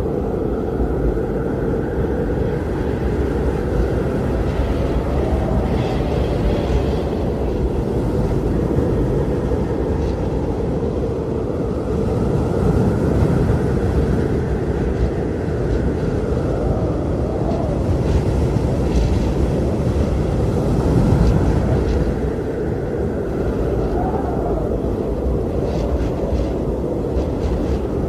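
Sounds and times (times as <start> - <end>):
blizzard wind howling: 0.0 - 28.0.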